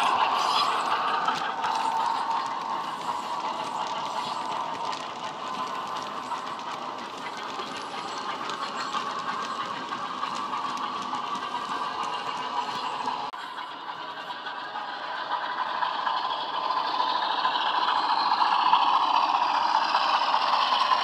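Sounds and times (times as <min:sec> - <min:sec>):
model locomotive diesel sound: 0:00.0 - 0:21.0
model train wheels clicking: 0:00.0 - 0:21.0.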